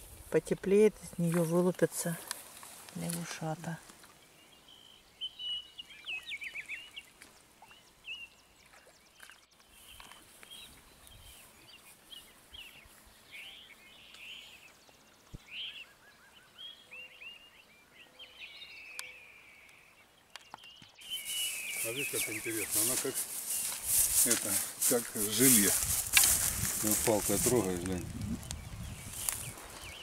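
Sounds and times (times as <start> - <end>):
birds chirping and trilling: 3.0 - 30.0.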